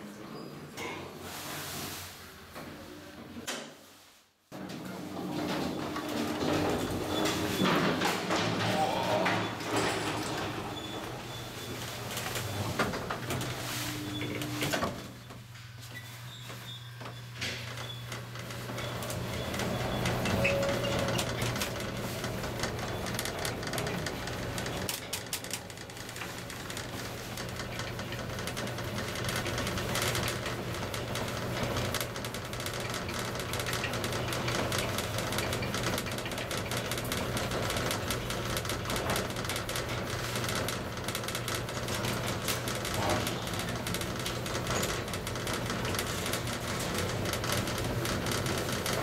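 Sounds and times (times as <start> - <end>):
elevator low hum: 4.6 - 49.0
elevator car rattling and ticking: 5.2 - 15.4, 17.7 - 49.0.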